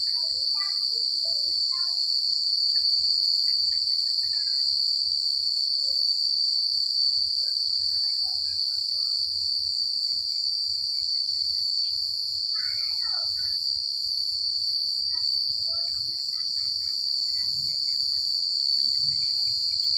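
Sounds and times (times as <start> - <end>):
crickets chirping: 0.0 - 19.9.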